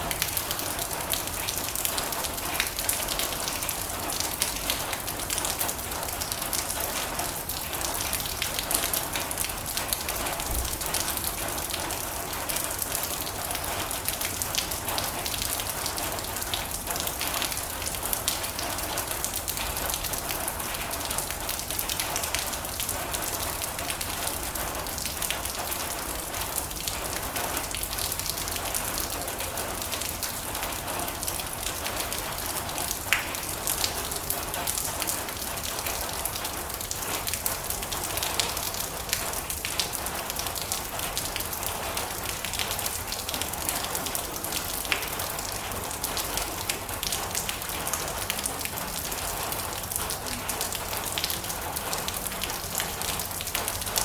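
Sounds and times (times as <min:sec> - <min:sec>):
rain drumming on a metal roof: 0:00.0 - 0:54.0
sharp water drips: 0:00.0 - 0:54.0.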